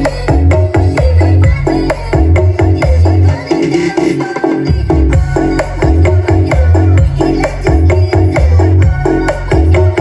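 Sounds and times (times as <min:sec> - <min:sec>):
electronic dance music: 0:00.0 - 0:10.0
heavy bass beat: 0:00.0 - 0:10.0.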